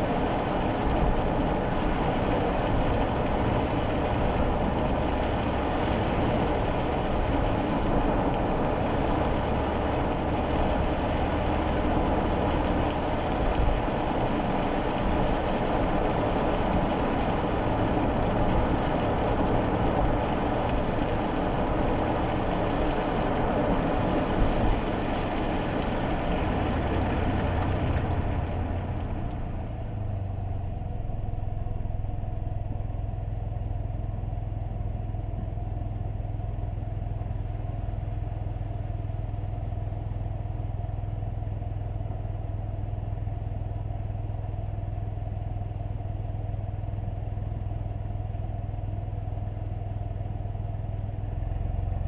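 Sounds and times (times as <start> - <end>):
low engine hum: 0.0 - 52.0
tyre noise on wet road: 0.0 - 52.0.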